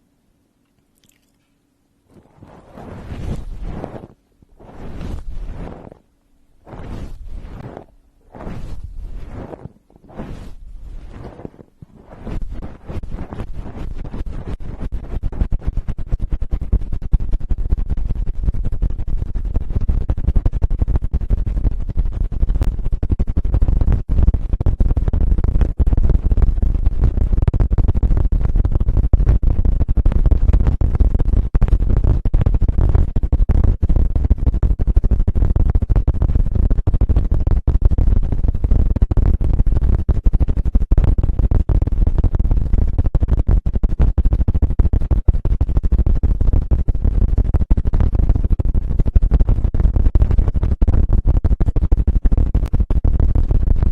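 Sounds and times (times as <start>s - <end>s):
scratching on microphone: 2.1s - 53.9s.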